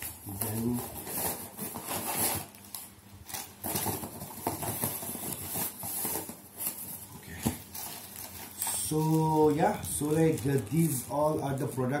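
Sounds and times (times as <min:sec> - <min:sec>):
cardboard and plastic packaging rustling: 0:00.0 - 0:12.0.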